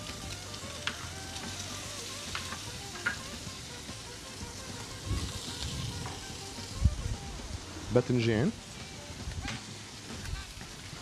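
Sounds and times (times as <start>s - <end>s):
shrimp sizzling in oil: 0.0s - 11.0s.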